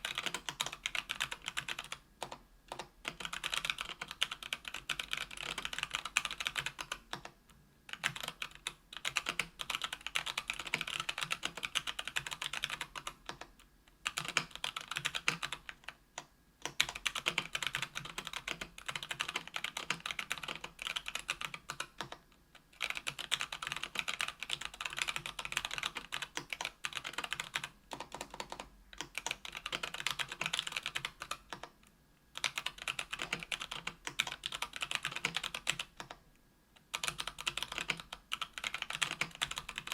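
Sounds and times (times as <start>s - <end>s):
mechanical keyboard typing: 0.0s - 31.8s, 32.4s - 36.2s, 36.8s - 39.9s.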